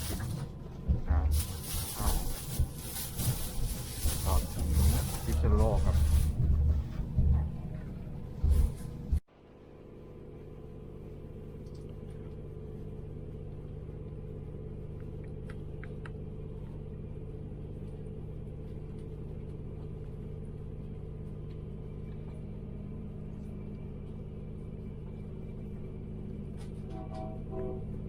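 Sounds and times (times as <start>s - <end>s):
train rumble inside carriage: 0.0s - 9.2s, 12.2s - 28.0s.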